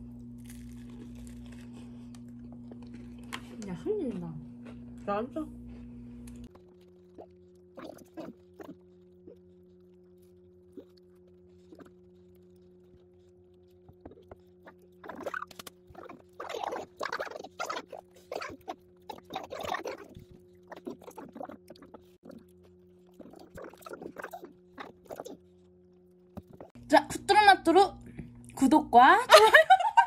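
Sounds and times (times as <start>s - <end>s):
person chewing and crunching: 0.0s - 3.6s, 6.2s - 26.8s
faint steady hum: 0.0s - 30.0s.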